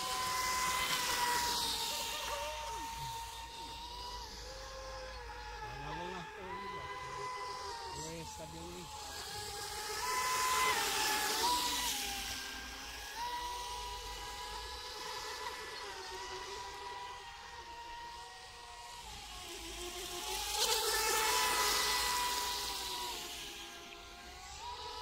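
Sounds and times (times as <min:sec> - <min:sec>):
electric motor whine: 0:00.0 - 0:25.0.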